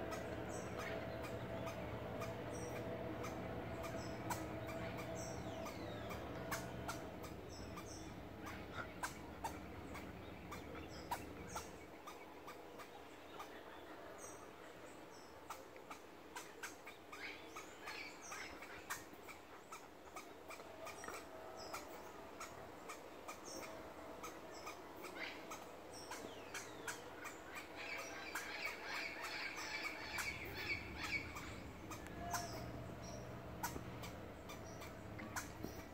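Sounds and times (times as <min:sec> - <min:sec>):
squirrel barking: 0:00.0 - 0:13.5, 0:15.4 - 0:35.9.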